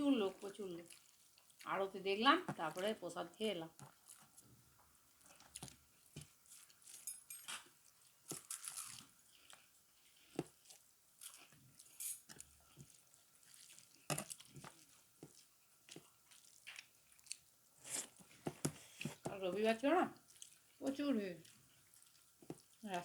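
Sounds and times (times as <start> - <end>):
chewing and mouth smacks: 0.8 - 1.7, 3.8 - 4.5, 5.1 - 19.3, 20.2 - 23.0.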